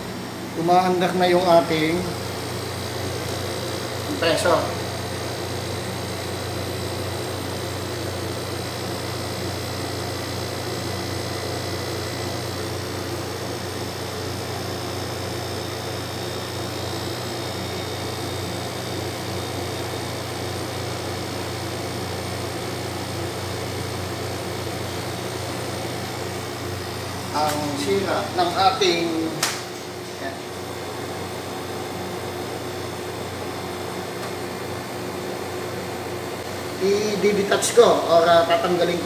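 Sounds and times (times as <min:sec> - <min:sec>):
air conditioner compressor hum: 0:00.0 - 0:39.0.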